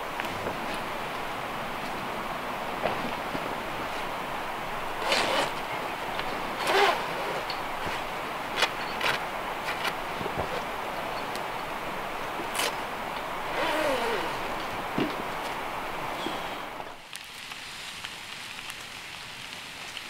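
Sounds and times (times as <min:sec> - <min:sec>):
canvas tent rustling: 0:00.0 - 0:17.0
steady background hiss: 0:00.0 - 0:20.0.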